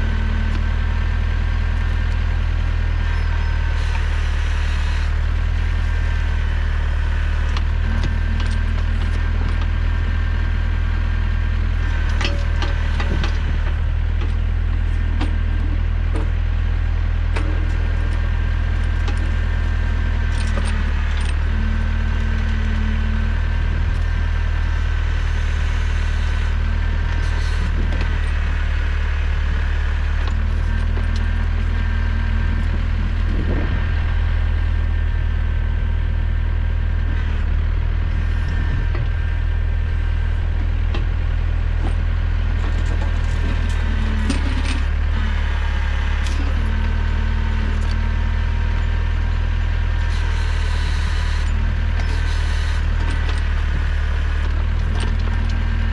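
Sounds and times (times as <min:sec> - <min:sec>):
hydraulic pump whine: 0:00.0 - 0:55.9
tractor engine running: 0:00.0 - 0:55.9.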